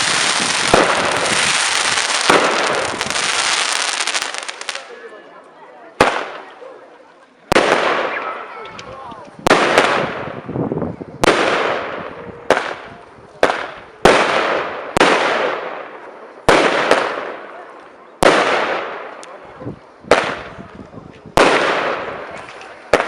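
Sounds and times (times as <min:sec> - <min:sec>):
fireworks bursting with hiss: 0:00.0 - 0:05.0, 0:06.0 - 0:06.6, 0:07.5 - 0:23.0.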